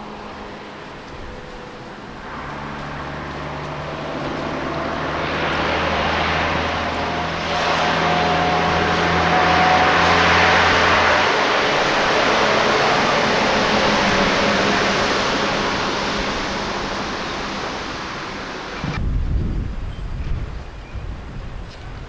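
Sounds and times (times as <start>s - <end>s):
vehicle engine approaching: 0.0s - 19.0s.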